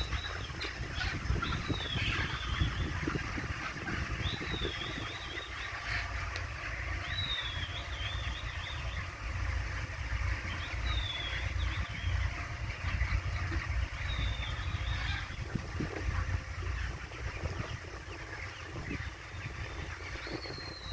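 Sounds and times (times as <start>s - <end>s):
birds chattering: 0.0s - 20.9s
poultry high wavering call: 0.0s - 20.9s
steady low rumble: 0.0s - 20.9s.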